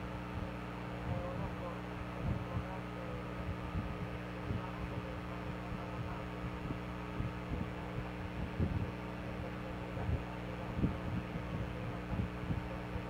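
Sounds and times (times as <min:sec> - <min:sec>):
soft low thumps: 0:00.0 - 0:02.8, 0:03.4 - 0:08.9, 0:10.0 - 0:12.8
low electrical hum: 0:00.0 - 0:13.0.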